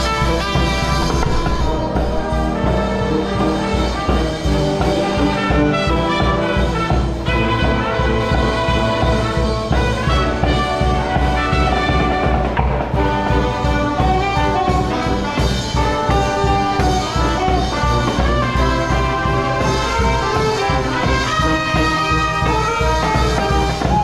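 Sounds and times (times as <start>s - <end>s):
brass music over a steady beat: 0.0s - 24.0s.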